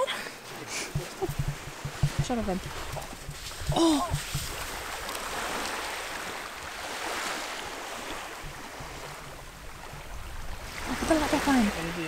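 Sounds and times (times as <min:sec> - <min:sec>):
river water washing: 0:00.0 - 0:12.0.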